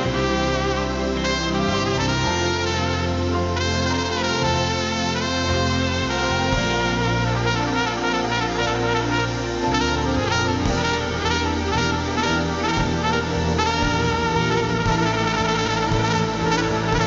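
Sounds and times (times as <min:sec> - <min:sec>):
low bass notes: 0:00.0 - 0:17.0
sustained lead instrument melody: 0:00.0 - 0:17.0.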